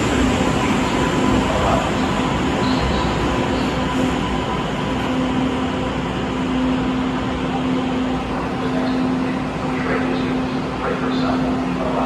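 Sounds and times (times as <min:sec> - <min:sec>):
train hum constant tone: 0:00.0 - 0:12.0.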